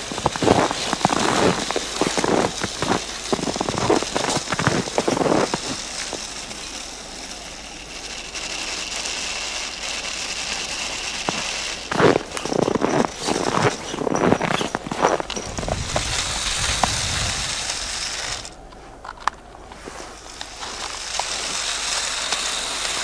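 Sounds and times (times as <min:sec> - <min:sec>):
faint high whine: 0:00.0 - 0:23.0
snow crunching and crackling: 0:00.0 - 0:23.0
steady hiss: 0:00.0 - 0:23.0.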